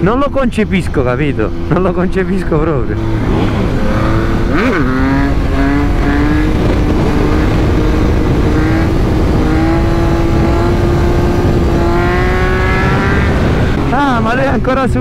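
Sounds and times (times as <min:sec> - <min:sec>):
motorcycle engine at speed: 0:00.0 - 0:15.0
wind rush on microphone: 0:03.0 - 0:15.0.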